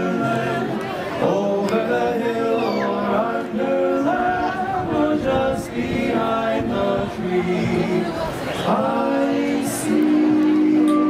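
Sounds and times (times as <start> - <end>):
a cappella group singing in harmony: 0.0 - 11.0.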